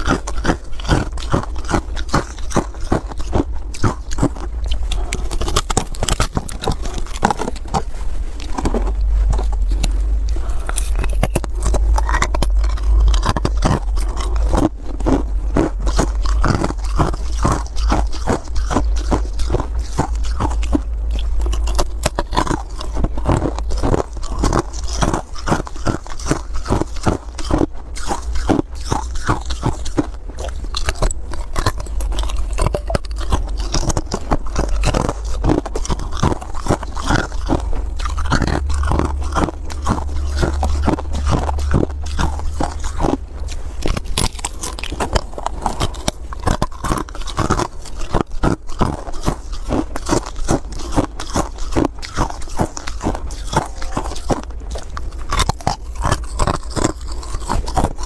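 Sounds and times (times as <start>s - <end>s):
chewing ice crunches: 0.0s - 58.0s
steady low rumble: 0.0s - 58.0s.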